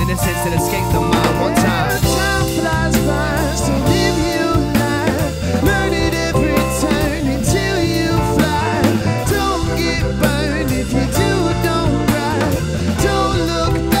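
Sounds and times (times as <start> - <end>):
drum kit with cymbals: 0.0 - 14.0
electric guitar: 0.0 - 14.0
keyboard: 0.0 - 14.0.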